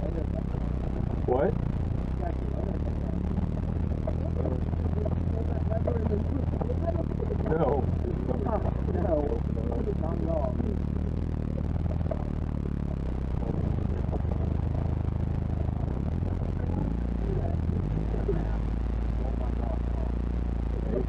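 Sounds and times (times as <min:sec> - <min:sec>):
engine revving: 0:00.0 - 0:21.0
engine running at low speed: 0:00.0 - 0:21.0.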